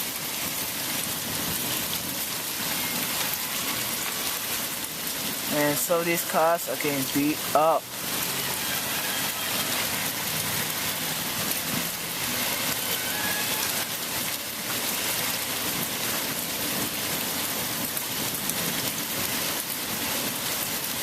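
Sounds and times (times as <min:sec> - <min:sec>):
hailstones ticking: 0:00.0 - 0:21.0
heavy rain hissing: 0:00.0 - 0:21.0.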